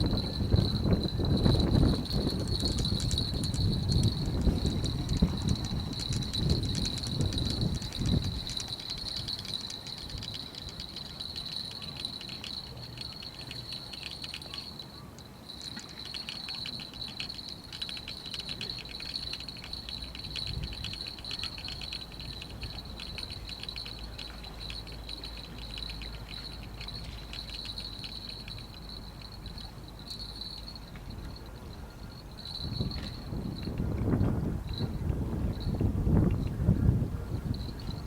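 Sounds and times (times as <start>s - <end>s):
high-pitched insect-like trill: 0.0s - 38.0s.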